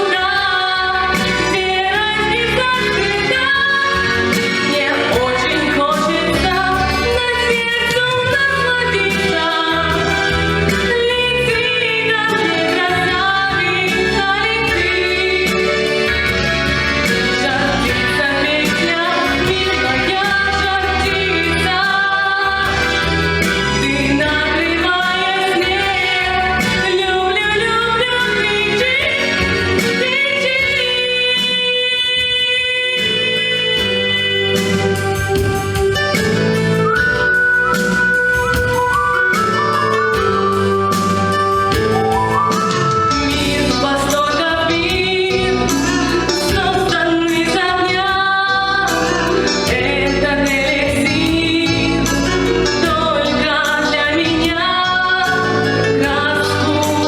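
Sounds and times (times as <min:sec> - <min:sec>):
instrumental backing track: 0:00.0 - 0:57.0
woman singing: 0:00.0 - 0:57.0.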